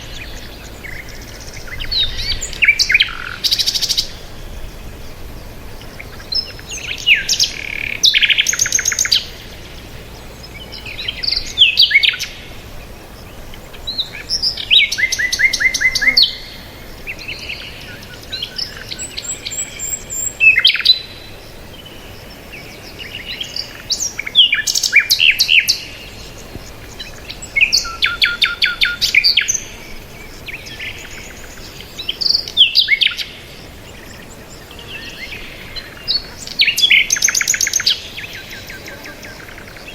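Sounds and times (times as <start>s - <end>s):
faint outdoor background: 0.0s - 39.9s
songbirds chirping: 0.0s - 39.9s.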